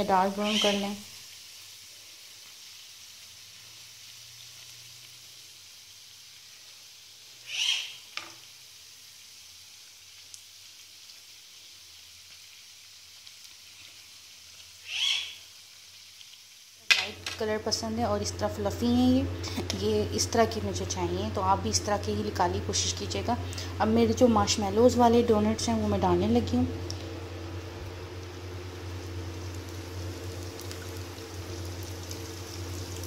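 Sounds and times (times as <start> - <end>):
donuts sizzling in hot oil: 0.0 - 33.0.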